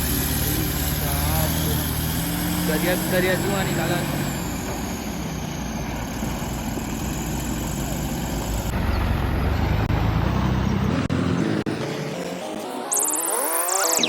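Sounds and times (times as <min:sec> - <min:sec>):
heavy diesel engine running: 0:00.0 - 0:12.4.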